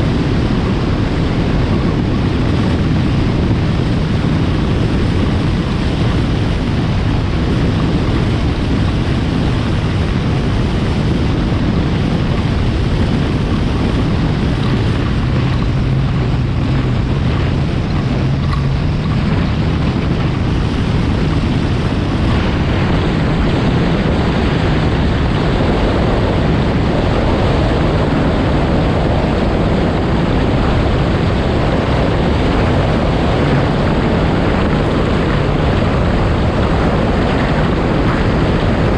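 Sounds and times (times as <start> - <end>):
watercraft engine running: 0.0 - 38.9
wind rush on microphone: 0.0 - 38.9.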